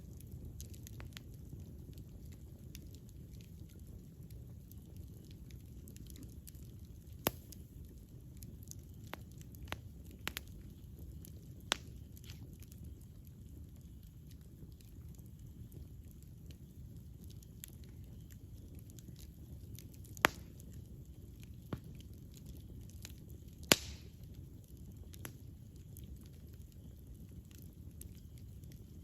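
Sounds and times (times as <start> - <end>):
campfire crackling and popping: 0.0 - 29.0
fire low rumble: 0.0 - 29.0.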